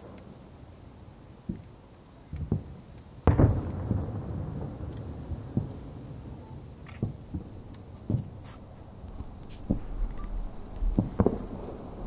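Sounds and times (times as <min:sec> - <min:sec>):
distant fireworks booms: 0:00.0 - 0:12.0.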